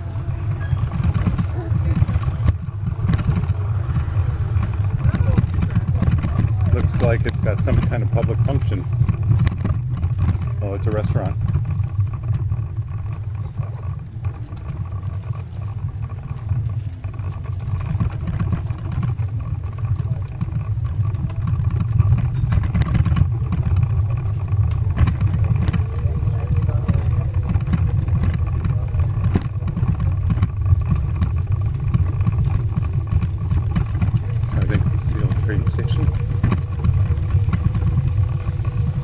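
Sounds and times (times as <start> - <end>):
bicycle rattling over bumps: 0.0 - 39.0
bicycle rumbling on brick paving: 0.0 - 39.0
wind buffeting microphone: 0.0 - 39.0.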